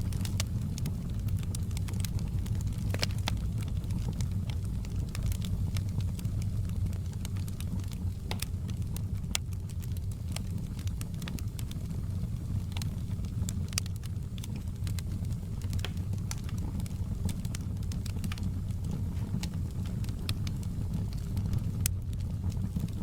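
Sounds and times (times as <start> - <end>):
burning wood crackling and popping: 0.0 - 23.0
flames rushing in fireplace: 0.0 - 23.0.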